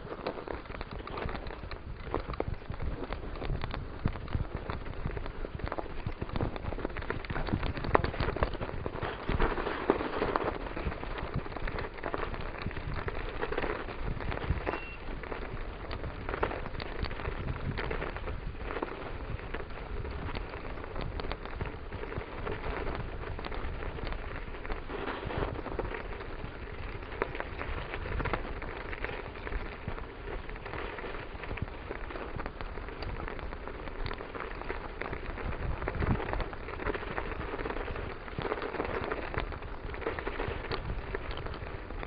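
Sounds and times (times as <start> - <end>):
bicycle tyres on snow: 0.0 - 42.0.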